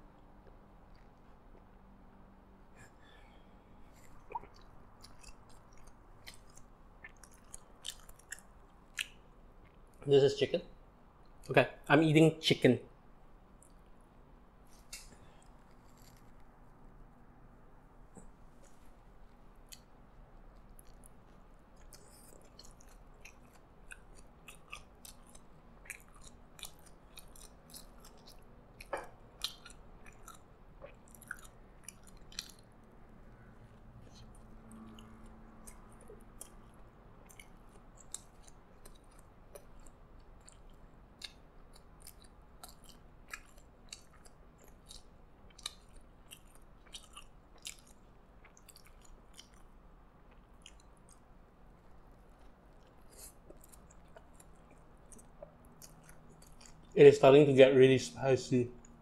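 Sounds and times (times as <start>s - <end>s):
person chewing: 0.3s - 1.9s, 2.8s - 10.0s, 14.7s - 17.0s, 18.0s - 57.0s.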